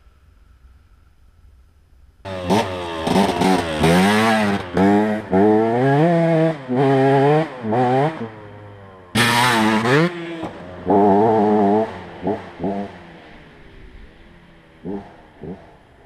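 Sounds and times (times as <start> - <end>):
two-stroke motorcycle engine revving: 2.3 - 16.0.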